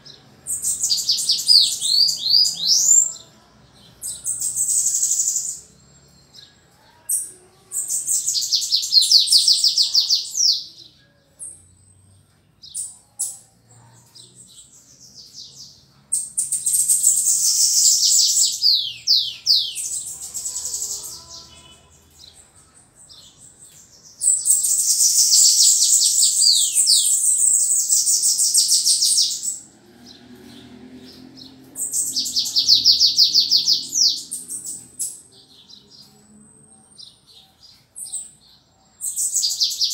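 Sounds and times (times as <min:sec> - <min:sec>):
bird trilling song: 0:00.0 - 0:29.7, 0:30.5 - 0:39.9.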